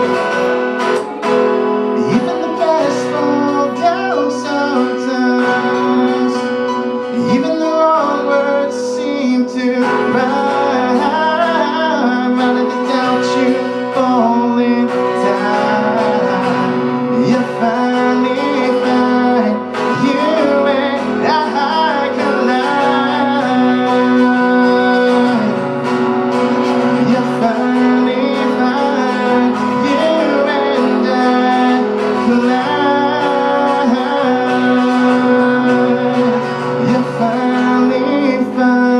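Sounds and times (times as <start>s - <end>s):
acoustic guitar strumming: 0.0s - 38.9s
person singing: 0.0s - 38.9s.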